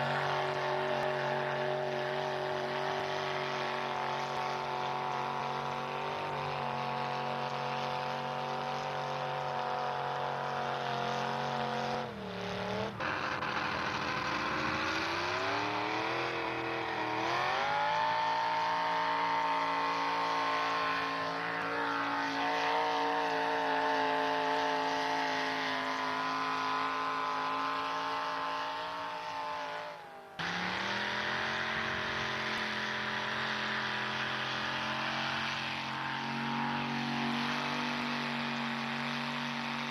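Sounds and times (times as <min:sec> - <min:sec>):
another engine at high revs: 0:00.0 - 0:39.9
truck engine at high revs: 0:00.0 - 0:39.9.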